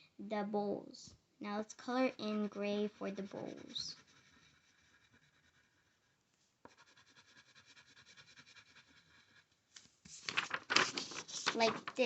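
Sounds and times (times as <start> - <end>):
pencil scratching on paper: 1.8 - 12.0.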